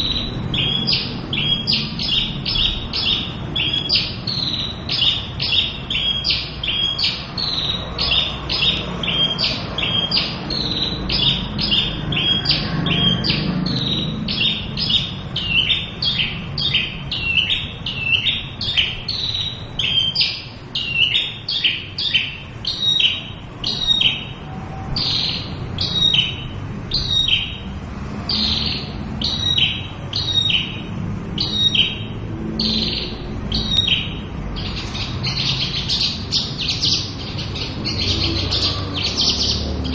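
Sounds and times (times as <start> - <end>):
lark singing: 0.0 - 39.9.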